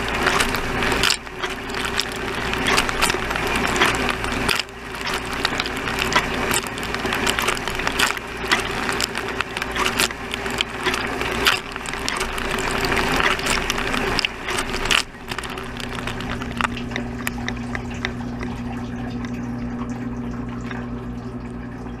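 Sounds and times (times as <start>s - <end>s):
dishwasher pump humming: 0.0s - 22.0s
water drips: 0.0s - 22.0s.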